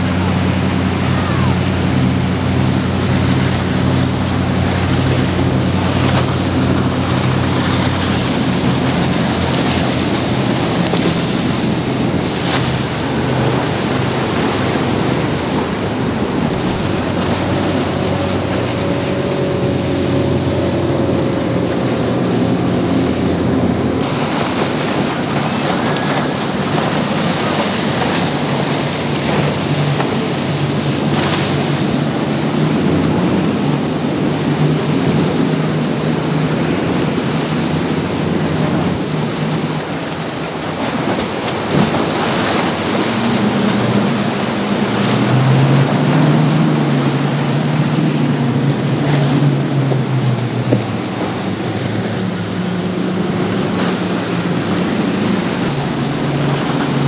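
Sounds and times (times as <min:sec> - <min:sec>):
motorboat engines: 0:00.0 - 0:57.0
surf: 0:00.0 - 0:57.0
wind noise on microphone: 0:00.0 - 0:57.0.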